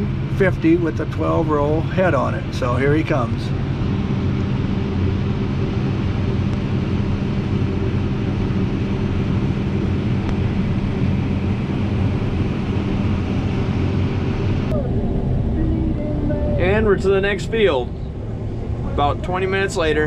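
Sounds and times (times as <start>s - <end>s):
combine harvesters droning: 0.0s - 20.0s.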